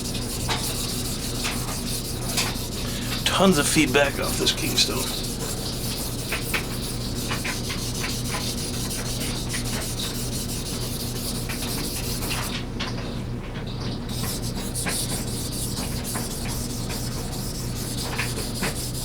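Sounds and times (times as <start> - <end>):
knife rasping on whetstone: 0.0 - 3.2, 5.1 - 12.6, 14.1 - 19.0.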